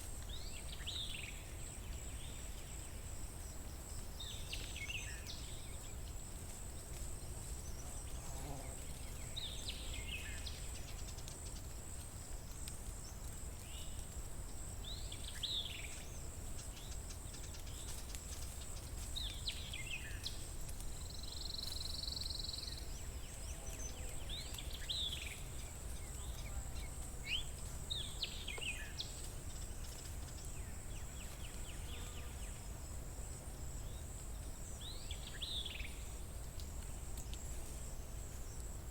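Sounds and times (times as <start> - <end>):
songbirds singing: 0.2 - 32.9, 33.7 - 38.7.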